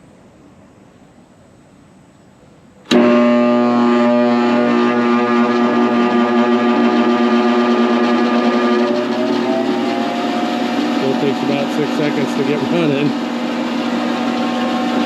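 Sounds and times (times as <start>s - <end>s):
bandsaw motor humming: 2.9s - 15.0s.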